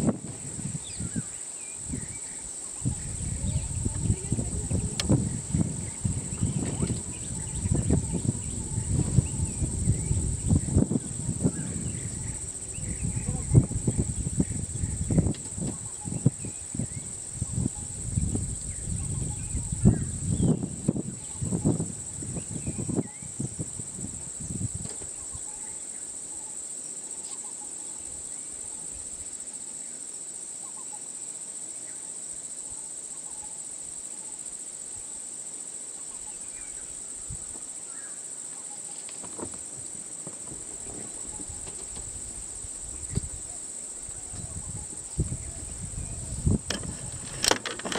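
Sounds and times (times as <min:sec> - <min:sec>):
high-pitched insect chorus: 0:00.0 - 0:47.9.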